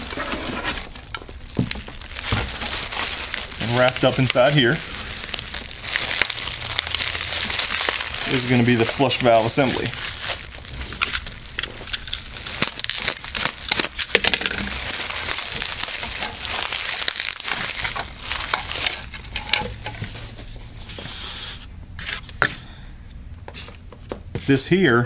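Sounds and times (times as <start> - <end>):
bubble wrap crinkling: 0.0 - 22.4.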